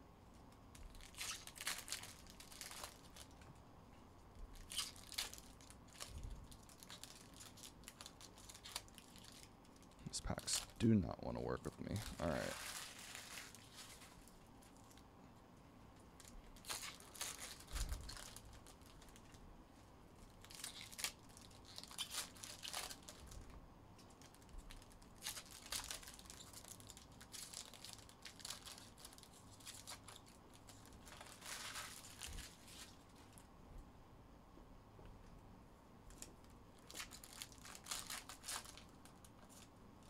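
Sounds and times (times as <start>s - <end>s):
foil wrappers crinkling and tearing: 0.7s - 3.5s, 4.5s - 15.1s, 16.0s - 19.4s, 20.2s - 33.4s, 36.1s - 39.7s.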